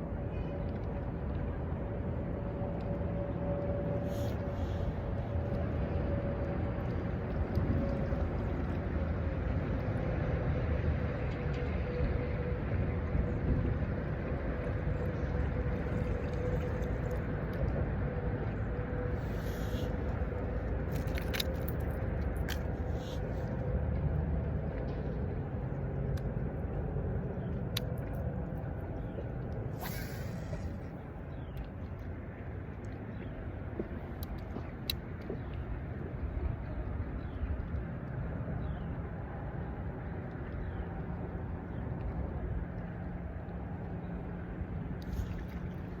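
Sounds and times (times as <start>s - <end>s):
engine drone: 0.0s - 46.0s.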